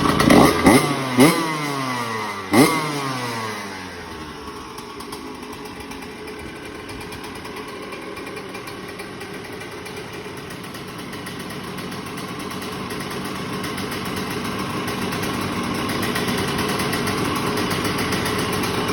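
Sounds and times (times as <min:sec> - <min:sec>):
two-stroke engine idling: 0:00.0 - 0:18.9.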